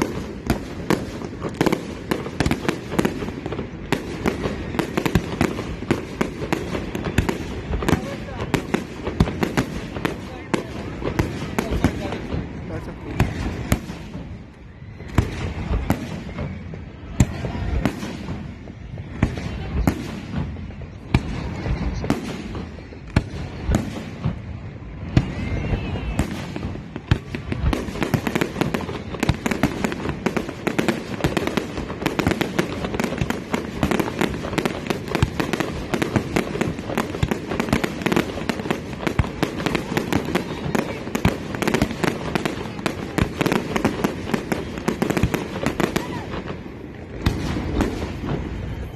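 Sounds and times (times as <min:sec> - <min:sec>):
fireworks bangs and crackle: 0:00.0 - 0:48.9.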